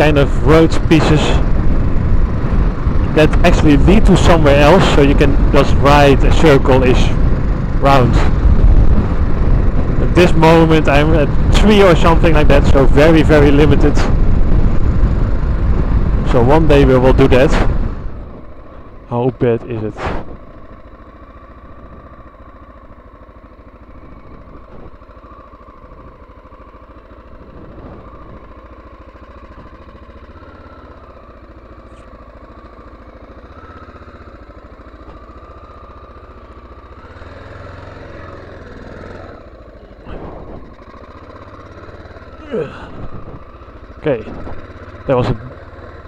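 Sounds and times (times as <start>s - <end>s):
motorcycle engine: 0.0s - 46.0s.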